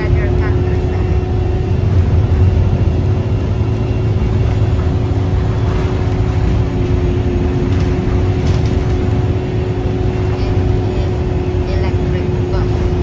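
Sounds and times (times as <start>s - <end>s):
bus engine and road rumble: 0.0s - 13.0s
constant hum: 0.0s - 13.0s.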